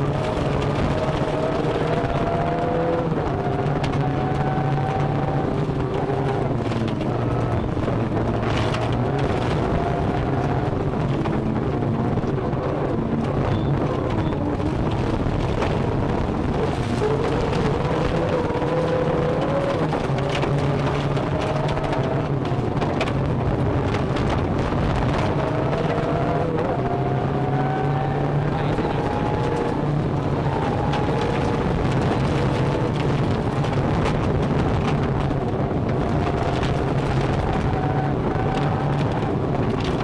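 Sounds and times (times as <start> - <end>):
low rumble: 0.0 - 40.0
rally car engine accelerating: 0.0 - 40.0.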